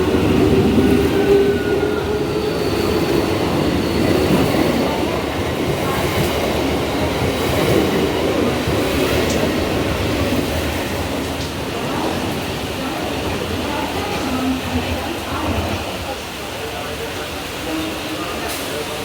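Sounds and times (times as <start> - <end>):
electric train rumbling on track: 0.0 - 19.0.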